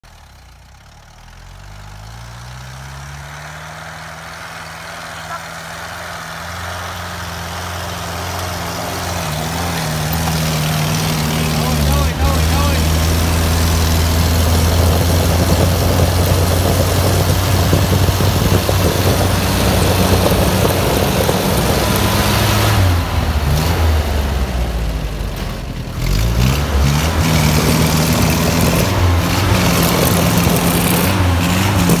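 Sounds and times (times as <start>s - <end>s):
wheels spinning in snow: 0.0s - 32.0s
engine running hard under load: 0.9s - 32.0s.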